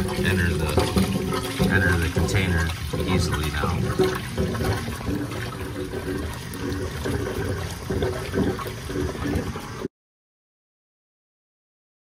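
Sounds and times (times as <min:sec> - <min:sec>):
water splashing into a tank: 0:00.0 - 0:09.9.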